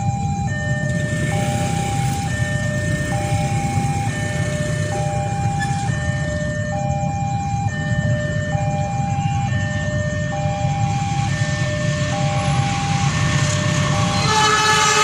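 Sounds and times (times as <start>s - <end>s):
level crossing alarm tones: 0.0s - 15.0s.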